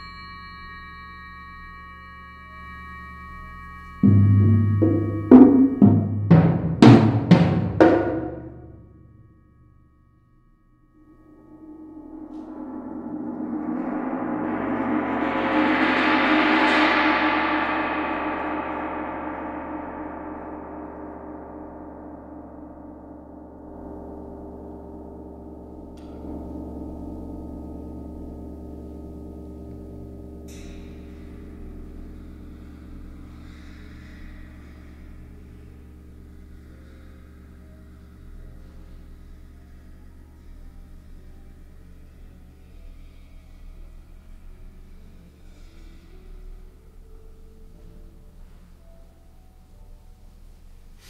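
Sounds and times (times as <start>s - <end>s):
large gong ringing: 0.0s - 9.6s, 11.0s - 43.3s.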